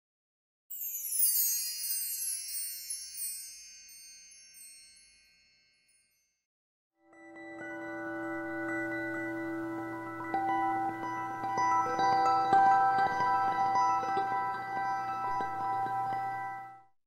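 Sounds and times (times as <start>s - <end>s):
music with mallet-like tones: 0.7s - 6.3s, 7.0s - 16.9s
shimmering chime cascade: 0.7s - 6.3s, 7.1s - 16.8s.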